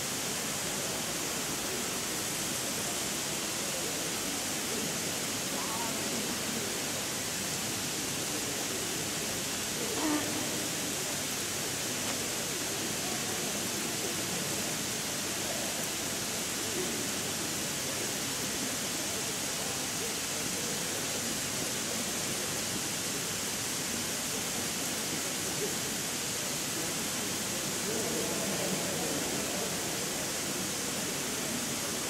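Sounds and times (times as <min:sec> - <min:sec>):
water spraying from sprinklers: 0:00.0 - 0:32.0.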